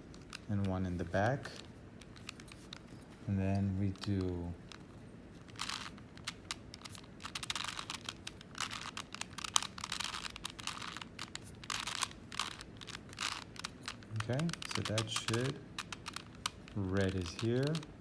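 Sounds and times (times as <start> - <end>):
puzzle cube clicking and scraping: 0.0 - 18.0.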